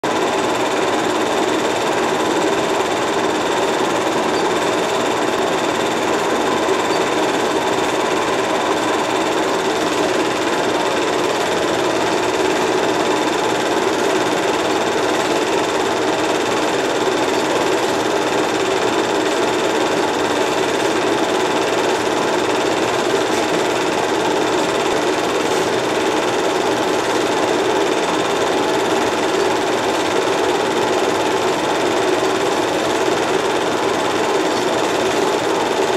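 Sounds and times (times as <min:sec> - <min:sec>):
movie projector whirring clatter: 0:00.0 - 0:35.9.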